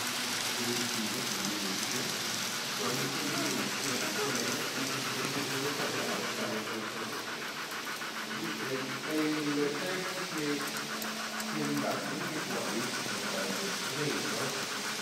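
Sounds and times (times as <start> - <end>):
model train running: 0.0 - 15.0
fast even ticking: 0.6 - 15.0
people's voices: 0.6 - 15.0.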